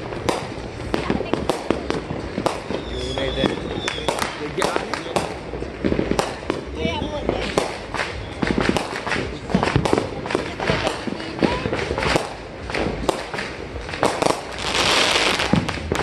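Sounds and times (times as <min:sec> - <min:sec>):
fireworks bangs and cracks: 0:00.0 - 0:16.0
fireworks hissing crackle: 0:00.0 - 0:16.0.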